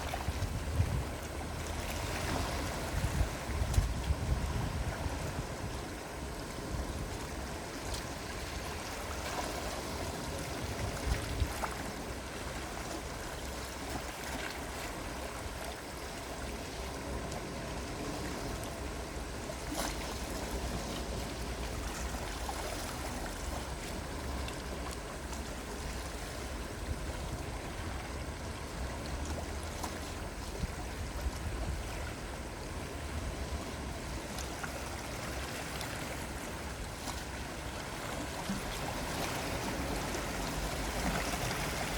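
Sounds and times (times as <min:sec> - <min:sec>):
sea waves washing gently: 0:00.0 - 0:41.9
wind rumble on microphone: 0:00.0 - 0:41.9.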